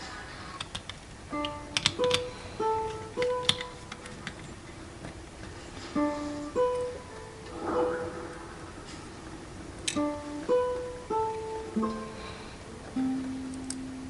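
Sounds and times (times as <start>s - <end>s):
plucked string music: 1.3s - 14.0s.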